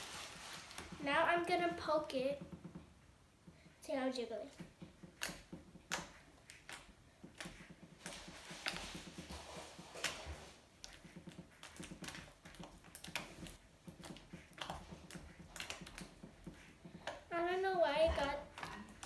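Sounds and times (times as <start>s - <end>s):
slime squelching: 3.4s - 19.0s.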